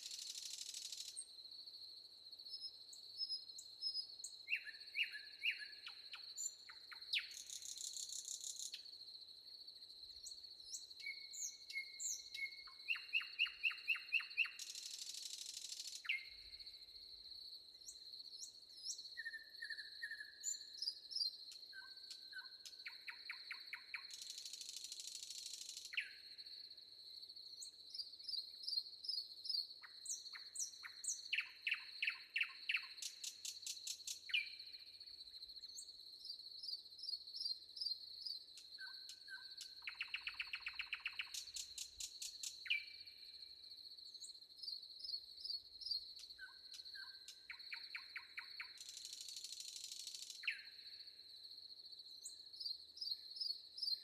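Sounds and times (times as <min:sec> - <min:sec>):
songbirds chirping: 0:02.3 - 0:26.7, 0:27.4 - 0:50.8.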